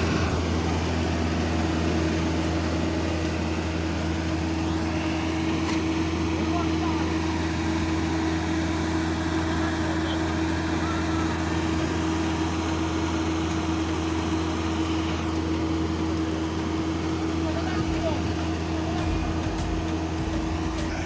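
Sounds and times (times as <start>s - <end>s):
harvester engine running: 0.0s - 21.0s.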